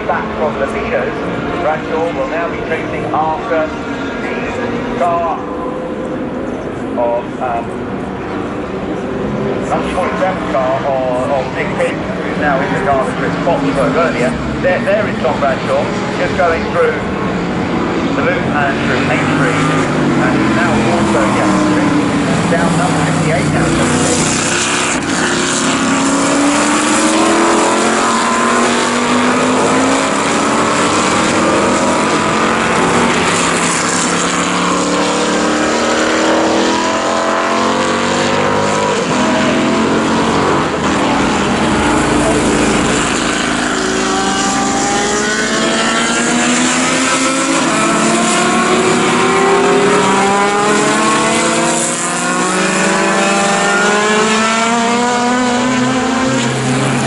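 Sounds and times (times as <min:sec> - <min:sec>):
racing car engines accelerating: 0:00.0 - 0:57.0.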